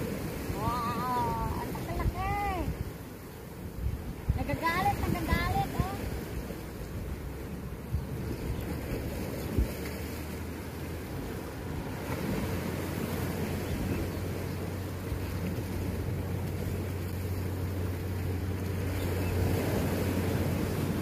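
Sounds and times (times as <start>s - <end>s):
surf washing against rocks: 0.0s - 21.0s
wind buffeting microphone: 0.0s - 21.0s.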